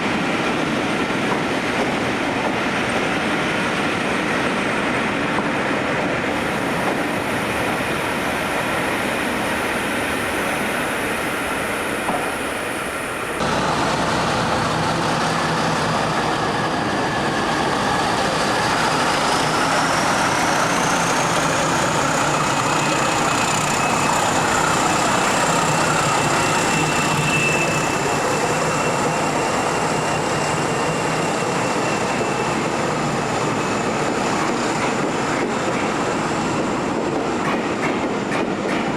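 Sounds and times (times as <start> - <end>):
train rumbling and rattling on rails: 0.0 - 38.9.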